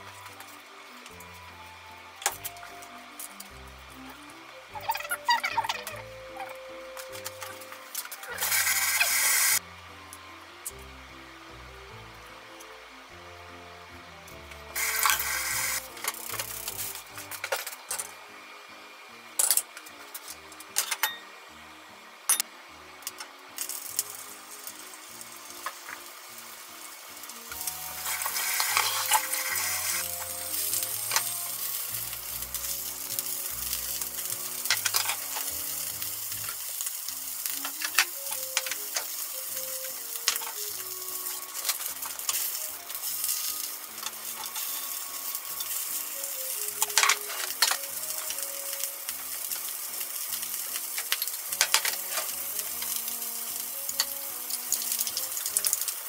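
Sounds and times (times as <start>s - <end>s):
food sizzling in frying pan: 0.0s - 9.7s, 10.7s - 18.2s, 22.8s - 56.0s.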